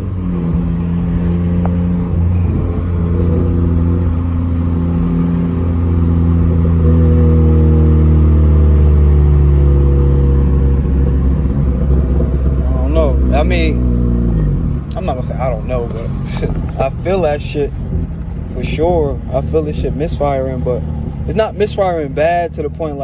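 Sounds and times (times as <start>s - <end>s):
car engine droning while driving: 0.0s - 23.0s.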